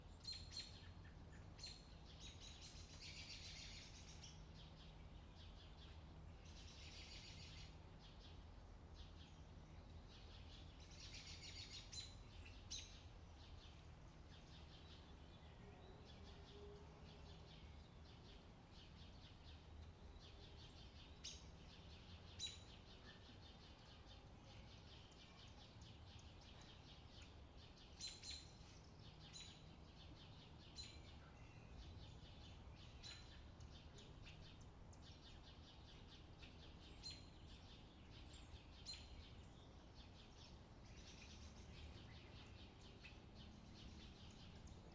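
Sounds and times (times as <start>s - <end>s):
birds trilling songs: 0.0s - 44.9s.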